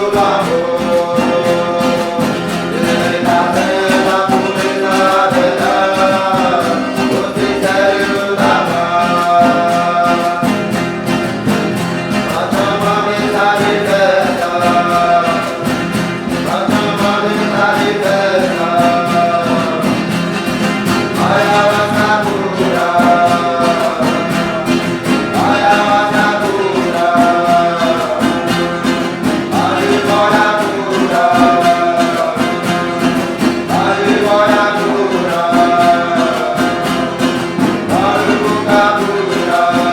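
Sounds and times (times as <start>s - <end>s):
strummed string accompaniment: 0.0s - 39.9s
voices chanting: 0.0s - 39.9s.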